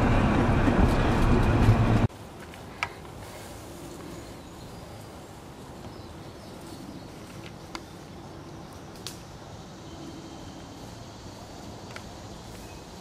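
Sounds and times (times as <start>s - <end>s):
faint outdoor hiss: 2.0s - 13.0s.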